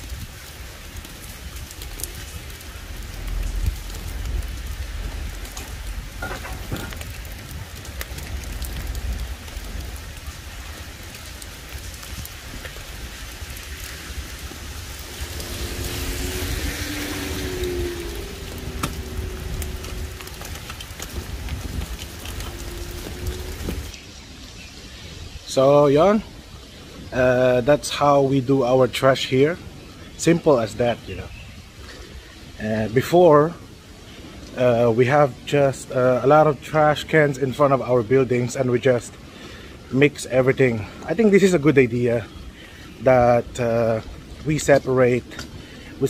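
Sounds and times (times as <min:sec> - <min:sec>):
wind rumble on microphone: 0:00.0 - 0:36.9
clicks of raindrops: 0:00.0 - 0:46.0
heavy rain falling: 0:00.0 - 0:46.0.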